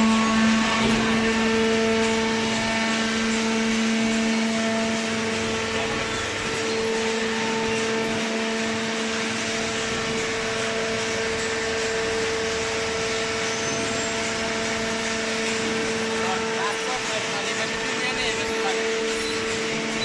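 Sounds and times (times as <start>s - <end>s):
baler machine humming: 0.0s - 20.0s.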